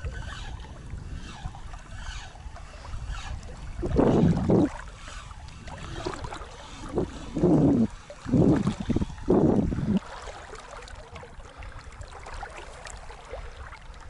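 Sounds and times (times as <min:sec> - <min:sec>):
wind and water noise on microphone: 0:00.0 - 0:14.0.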